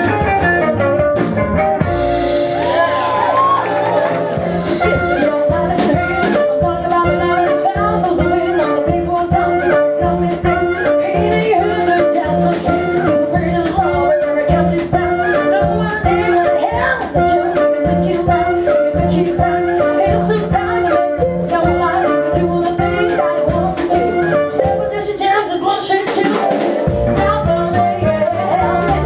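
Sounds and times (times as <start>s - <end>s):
swing band playing jazz: 0.0s - 29.0s.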